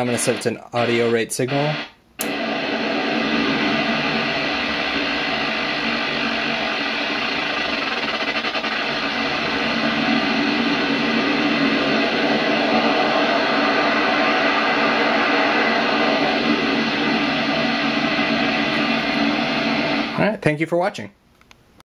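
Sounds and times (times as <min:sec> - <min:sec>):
harsh digital noise with tones: 0:00.0 - 0:20.4.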